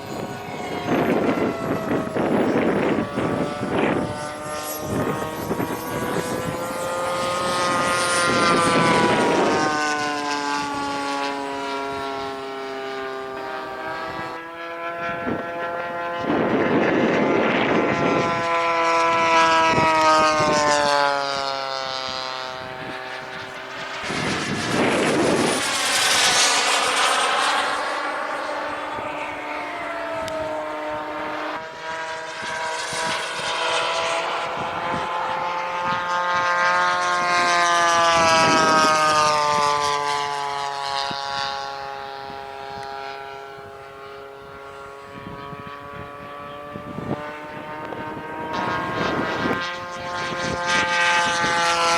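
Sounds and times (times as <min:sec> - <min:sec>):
model plane engine flying past: 0:00.0 - 0:51.9.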